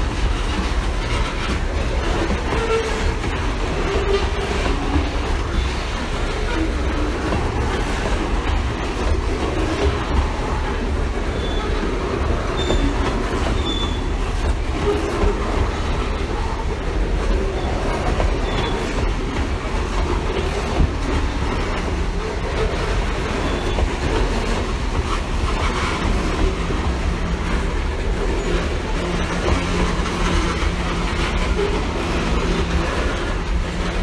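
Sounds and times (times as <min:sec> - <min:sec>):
freight train wheels rumbling: 0:00.0 - 0:34.0
wheels squealing: 0:00.9 - 0:34.0.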